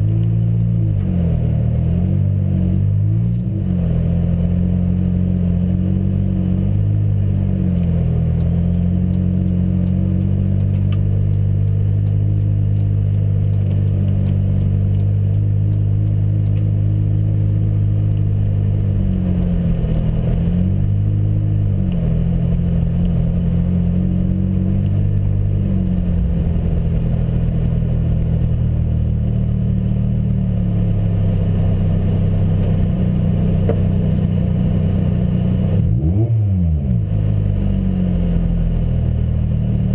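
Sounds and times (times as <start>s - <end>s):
car engine droning at low revs: 0.0s - 39.9s.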